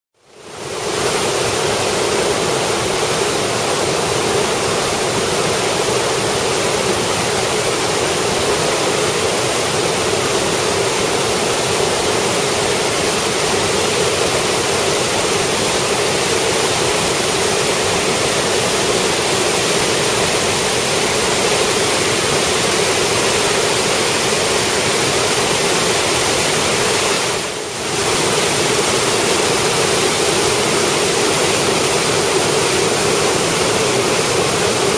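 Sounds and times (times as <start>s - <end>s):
water rushing over rocks: 0.3s - 34.9s.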